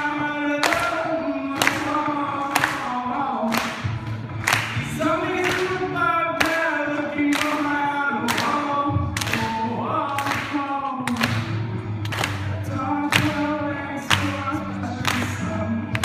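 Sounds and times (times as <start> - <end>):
man singing pop-rock song: 0.0 - 16.0.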